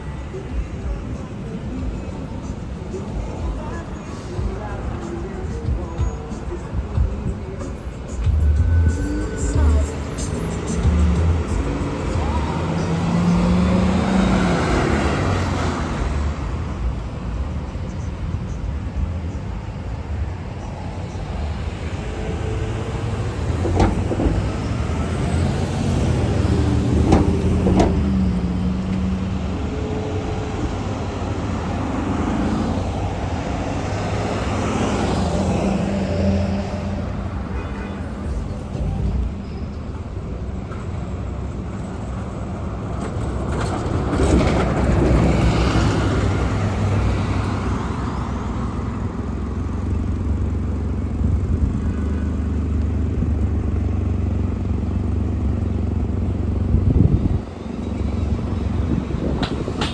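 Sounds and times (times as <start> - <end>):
buses and cars driving past: 0.0 - 59.9.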